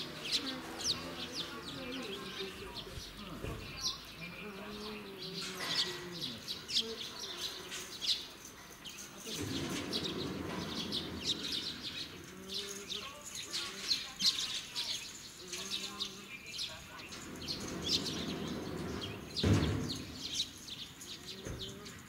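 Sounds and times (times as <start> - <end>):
birds chirping: 0.0 - 22.0
faint distant voices: 0.0 - 22.0.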